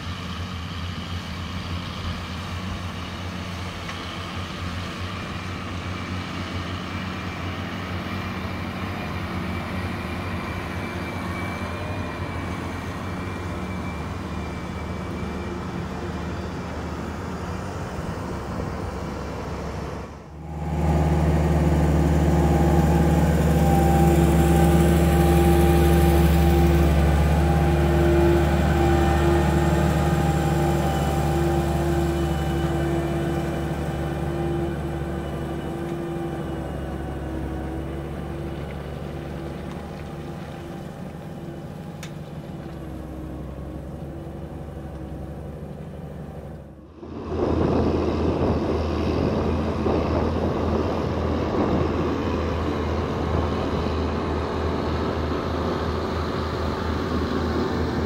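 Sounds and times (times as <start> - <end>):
heavy tractor engines under load: 0.0 - 58.0
tractor diesel engine passing: 0.0 - 58.0.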